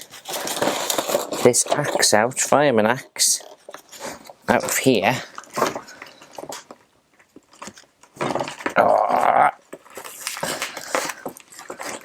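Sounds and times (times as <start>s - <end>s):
plastic packaging rustling: 0.0s - 9.0s, 9.6s - 12.0s.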